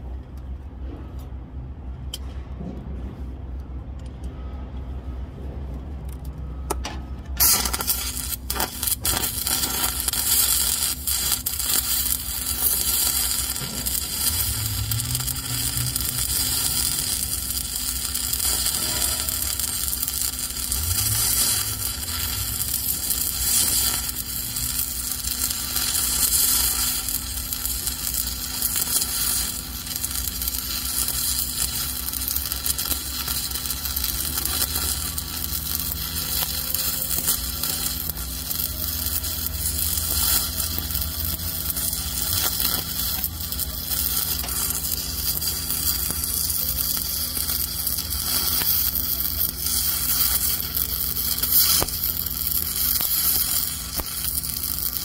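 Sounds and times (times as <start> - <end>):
stick welding arc: 6.7 - 55.0.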